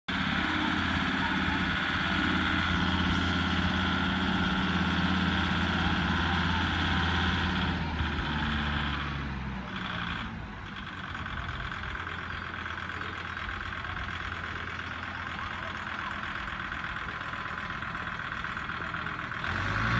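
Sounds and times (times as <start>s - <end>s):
tractor engine driving past: 0.1s - 19.9s.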